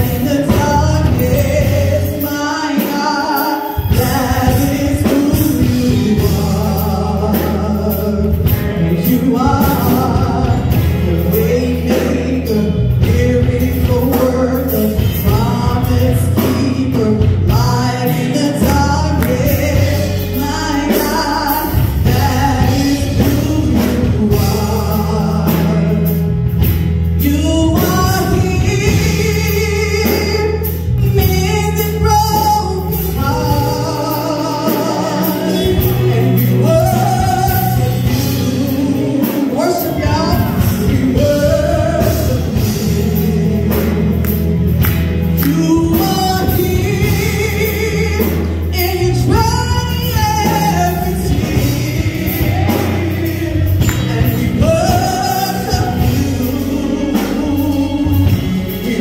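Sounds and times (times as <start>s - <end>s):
instrumental backing: 0.0s - 59.0s
woman singing gospel: 0.0s - 59.0s.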